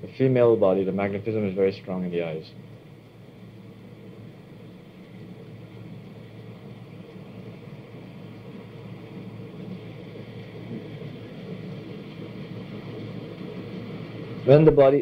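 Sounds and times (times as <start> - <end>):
steady low hum with hiss: 0.0 - 15.0.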